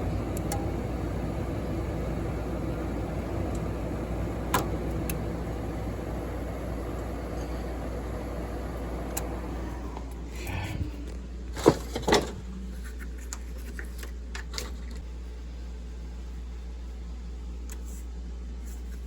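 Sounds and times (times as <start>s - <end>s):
furnace running: 0.0s - 15.3s
steady low hum: 0.0s - 19.0s.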